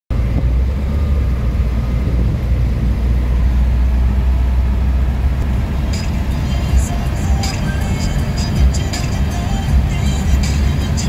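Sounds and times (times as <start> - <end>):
car cabin engine and tyre rumble: 0.1 - 11.0.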